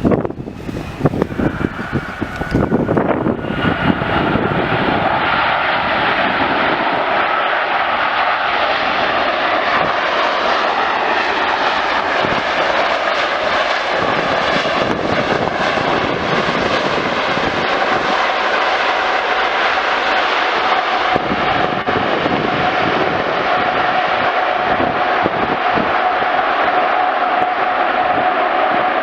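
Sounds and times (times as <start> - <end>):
jet engines of landing airliner: 0.0 - 29.0.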